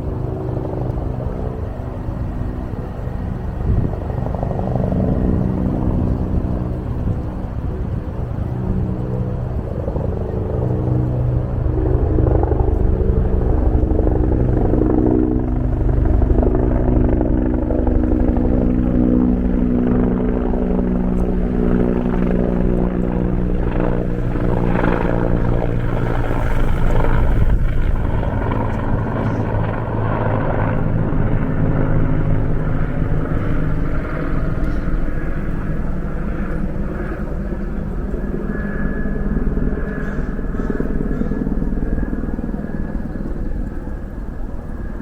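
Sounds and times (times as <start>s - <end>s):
engine droning hum: 0.0s - 45.0s.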